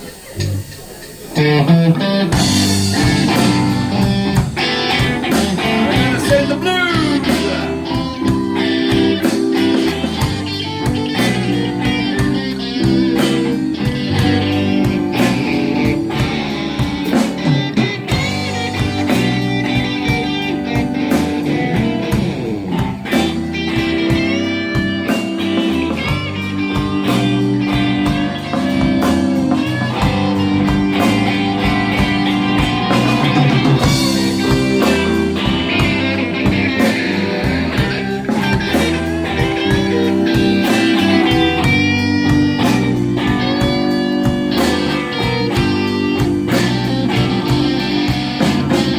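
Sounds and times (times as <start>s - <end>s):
band playing slow blues: 0.0s - 48.9s
electric guitar lead lines: 0.0s - 48.9s.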